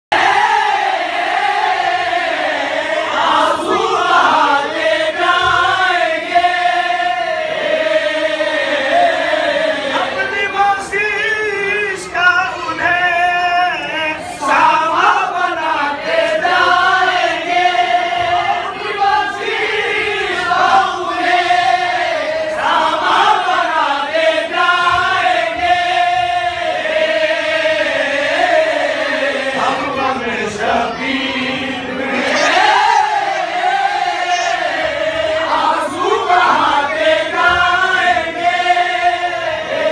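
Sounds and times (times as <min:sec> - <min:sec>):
men singing in chorus: 0:00.1 - 0:39.9.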